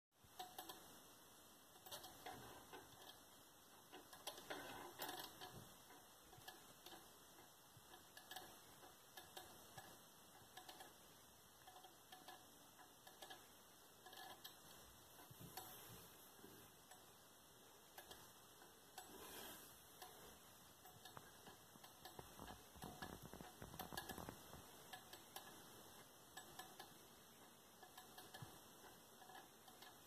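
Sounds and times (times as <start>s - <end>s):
wire ticking and scraping on battery: 0.2s - 1.0s, 1.7s - 17.1s, 17.9s - 30.0s.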